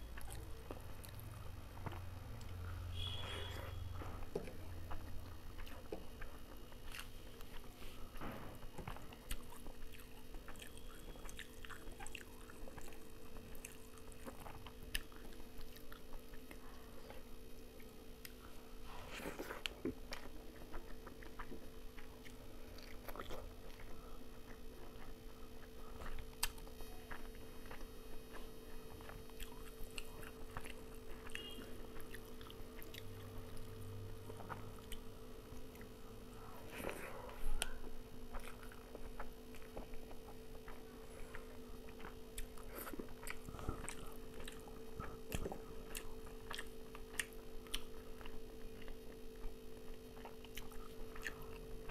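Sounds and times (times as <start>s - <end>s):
steady low hum: 0.0s - 51.9s
close-up chewing: 0.1s - 51.9s.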